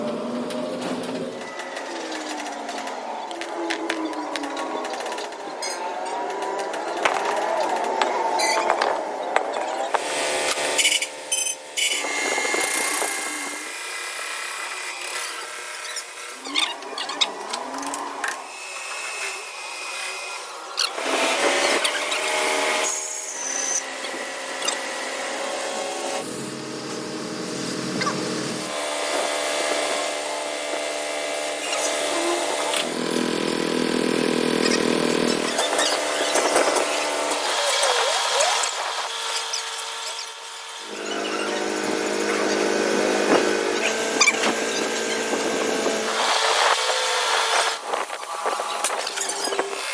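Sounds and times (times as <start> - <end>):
workshop machine motor hum: 0.0 - 15.6, 23.8 - 40.2, 40.8 - 48.9
power tool whining: 0.0 - 49.9.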